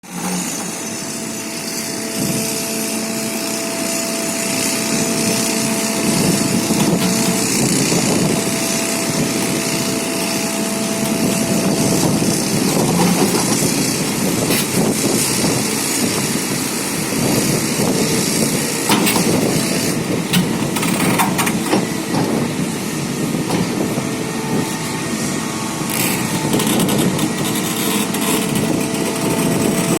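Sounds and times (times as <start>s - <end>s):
diesel engine under load: 0.0s - 30.0s
steady whine: 0.0s - 30.0s.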